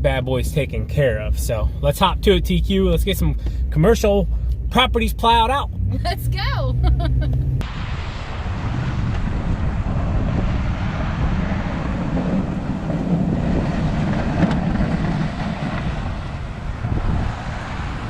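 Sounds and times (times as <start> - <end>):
truck engine and road rumble: 0.0 - 18.0.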